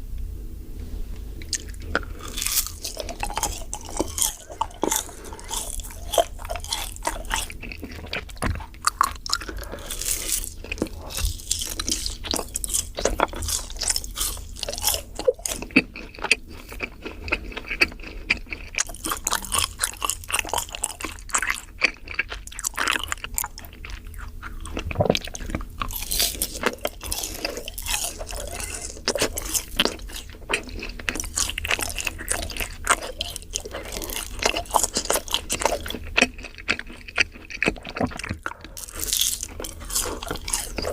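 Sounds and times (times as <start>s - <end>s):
cookies crunching while chewed: 1.4s - 40.9s.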